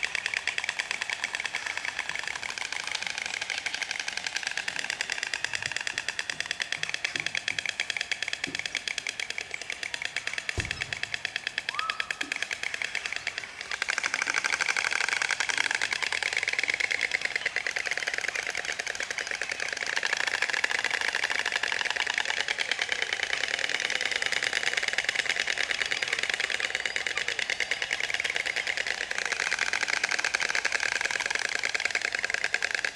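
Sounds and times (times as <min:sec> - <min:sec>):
storks clattering bills: 0:00.0 - 0:32.9.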